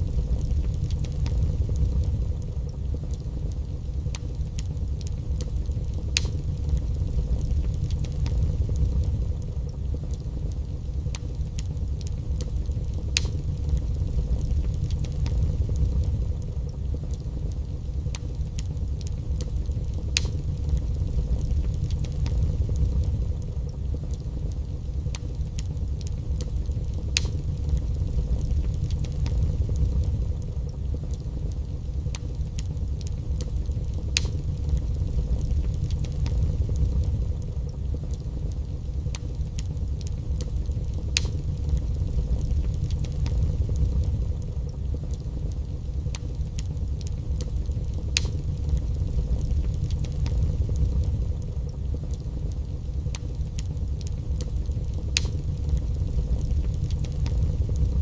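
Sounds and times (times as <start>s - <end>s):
fire crackles and pops: 0.0s - 58.0s
wood fire roaring: 0.0s - 58.0s.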